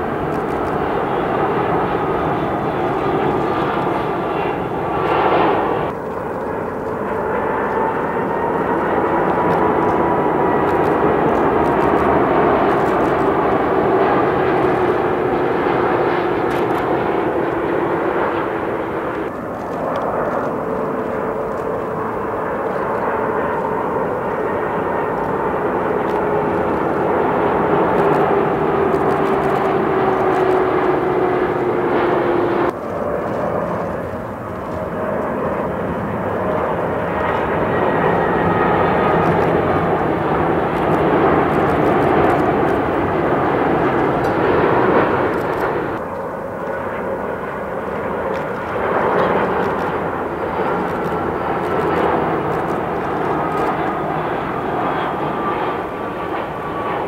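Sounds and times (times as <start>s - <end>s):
jet airliner flying past: 0.0s - 57.0s.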